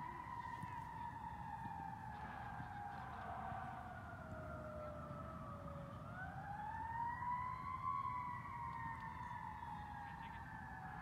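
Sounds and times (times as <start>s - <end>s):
faint siren wailing: 0.0s - 11.0s.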